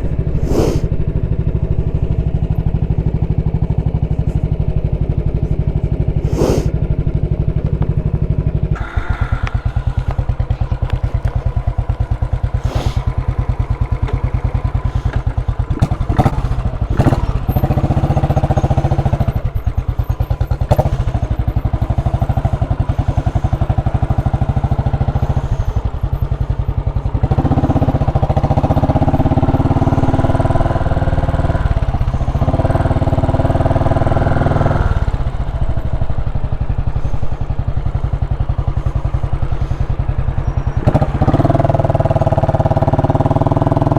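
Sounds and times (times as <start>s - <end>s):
motorcycle engine exhaust: 0.0s - 43.9s.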